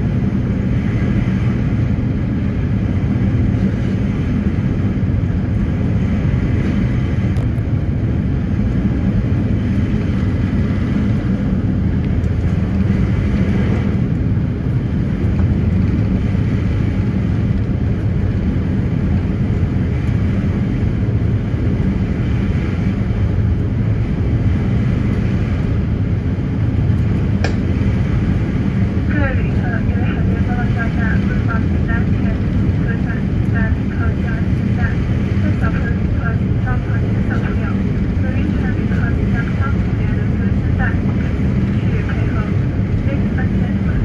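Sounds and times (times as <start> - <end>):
ferry engines droning: 0.0 - 44.0.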